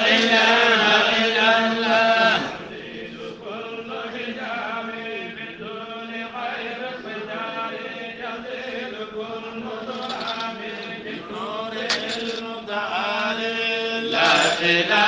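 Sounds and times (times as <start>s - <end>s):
voices chanting devotional song: 0.0s - 15.0s.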